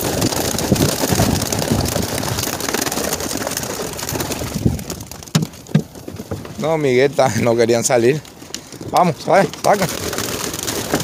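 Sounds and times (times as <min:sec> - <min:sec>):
pigeon wings flapping: 0:00.0 - 0:11.0.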